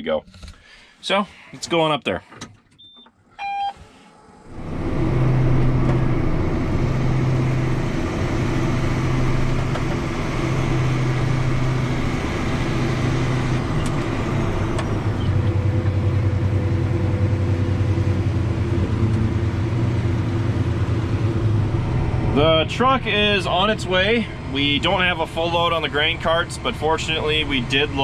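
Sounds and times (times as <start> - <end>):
vehicle engine driving: 3.5 - 28.0.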